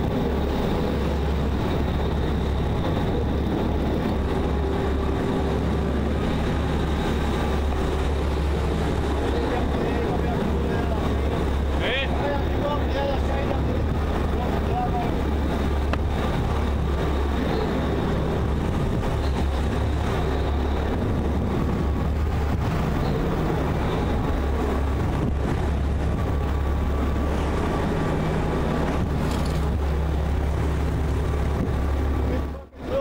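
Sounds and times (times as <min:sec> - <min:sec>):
boat diesel engines droning: 0:00.0 - 0:33.0
sea and wind noise: 0:00.0 - 0:33.0.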